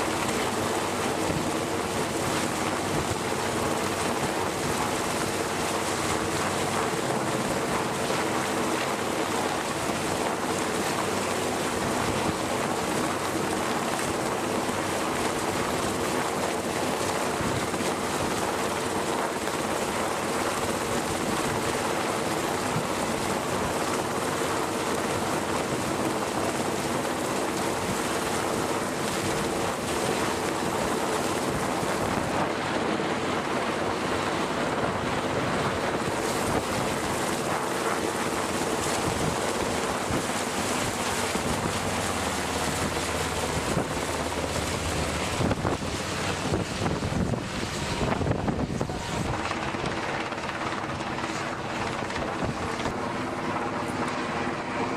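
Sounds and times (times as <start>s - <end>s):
wind buffeting microphone: 0.0s - 54.8s
helicopter hovering: 0.0s - 54.9s.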